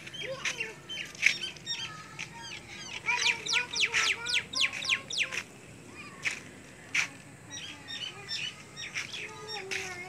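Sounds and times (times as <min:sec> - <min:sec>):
birds chirping: 0:00.0 - 0:06.1, 0:07.5 - 0:10.0.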